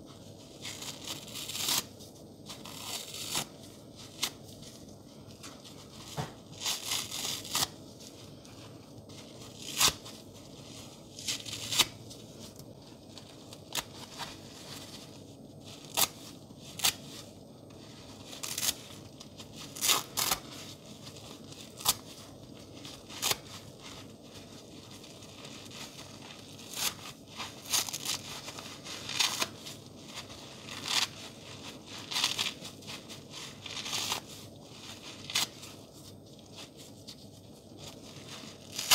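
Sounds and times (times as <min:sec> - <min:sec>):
sponge tearing and crackling: 0:00.5 - 0:38.9.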